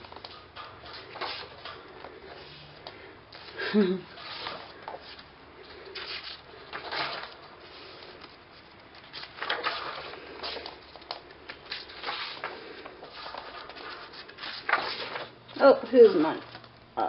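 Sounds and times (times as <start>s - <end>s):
book pages turning: 0.0s - 16.8s.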